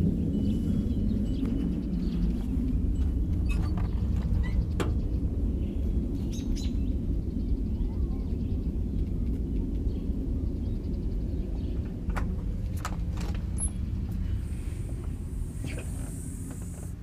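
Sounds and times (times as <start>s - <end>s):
birds chirping faintly: 0.0s - 17.0s
deep rumble from the sky: 0.0s - 17.0s.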